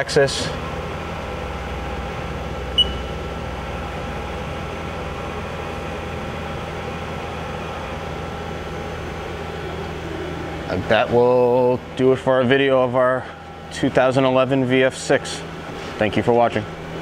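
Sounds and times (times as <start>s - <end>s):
machine hum with tones: 0.0s - 17.0s.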